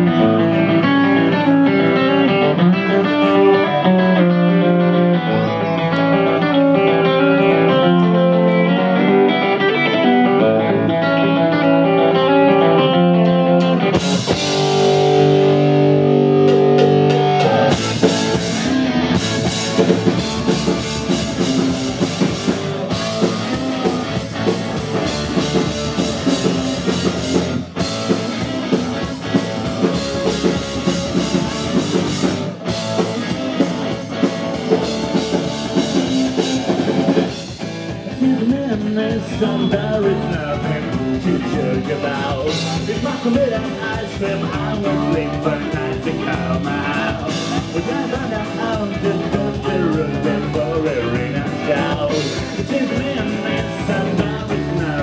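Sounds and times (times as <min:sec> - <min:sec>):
electric guitar riff: 0:00.0 - 0:55.0
rock band playing: 0:00.0 - 0:55.0.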